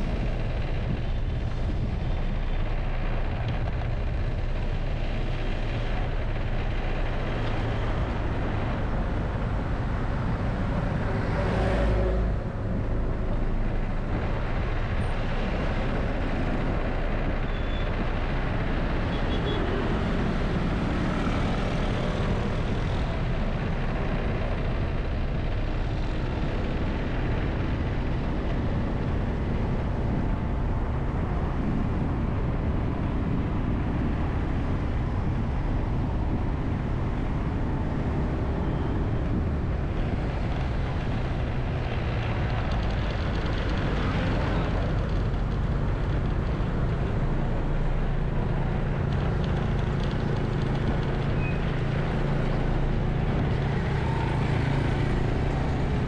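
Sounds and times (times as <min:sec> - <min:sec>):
city traffic noise: 0:00.0 - 0:56.0
vehicle engine drone: 0:00.0 - 0:56.0.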